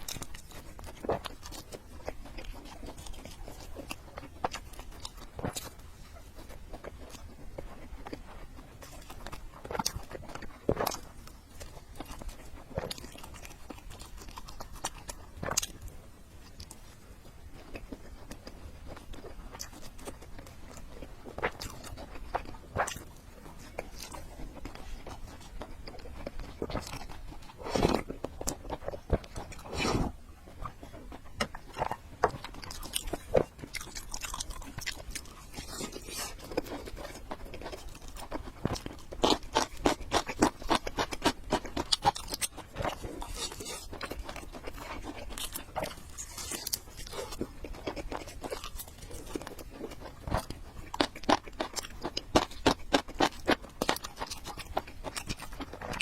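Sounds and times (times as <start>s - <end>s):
person chewing with wet smacking: 0.0s - 56.0s.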